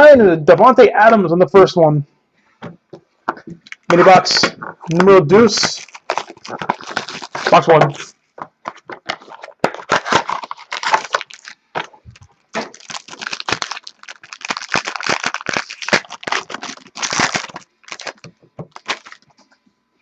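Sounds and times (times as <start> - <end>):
card packaging crinkling: 2.6 - 19.4.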